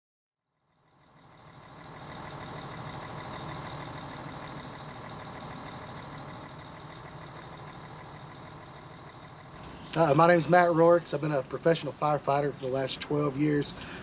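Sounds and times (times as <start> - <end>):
fire truck engine idling: 0.7 - 14.0.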